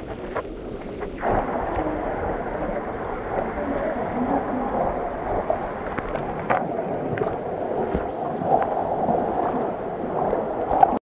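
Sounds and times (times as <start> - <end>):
water rushing and gurgling: 0.0 - 11.0.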